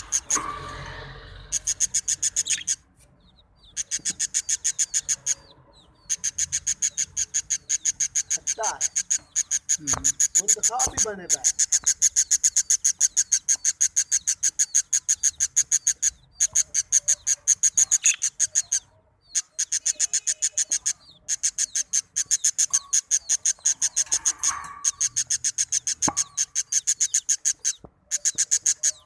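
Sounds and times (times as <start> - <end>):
nestling birds peeping: 0.0 - 29.0.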